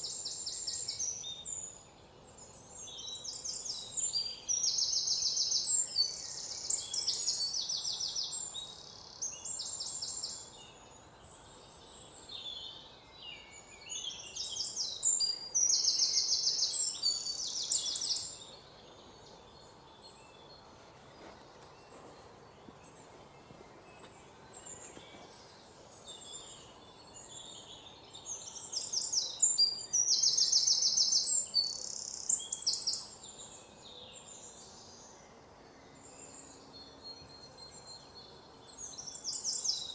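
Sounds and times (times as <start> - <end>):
faint bird chirps: 0.0 - 39.9
songbirds singing trilled phrases: 0.0 - 39.9.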